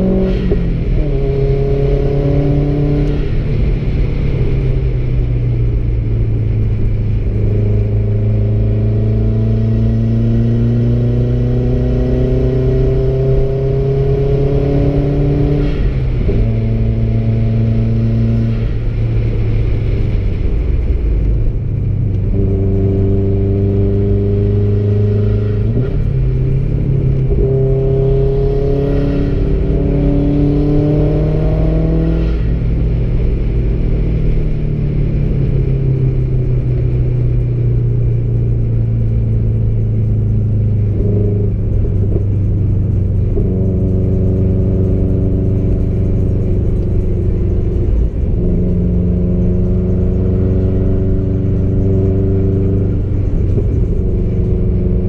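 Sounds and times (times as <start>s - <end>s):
car engine: 0.0s - 55.0s
road rumble: 0.0s - 55.0s.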